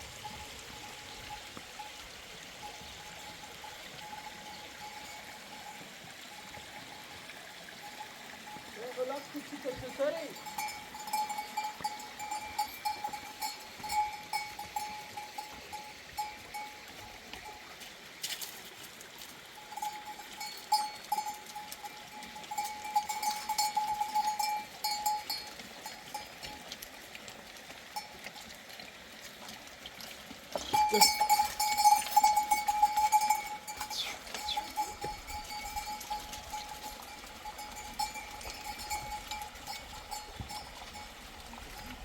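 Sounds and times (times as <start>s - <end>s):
sheep bells clinking: 0.0s - 27.0s, 27.9s - 28.5s, 29.3s - 42.0s.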